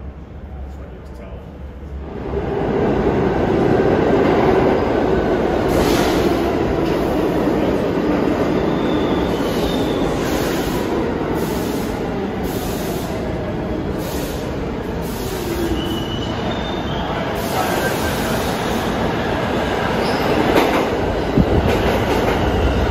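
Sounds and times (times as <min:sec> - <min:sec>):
subway train wheels rumbling: 0:00.0 - 0:22.9.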